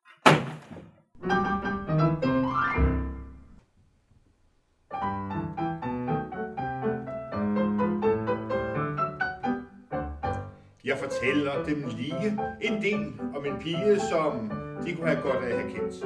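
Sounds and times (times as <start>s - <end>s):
piano on a keyboard: 1.2s - 3.6s, 4.9s - 16.0s.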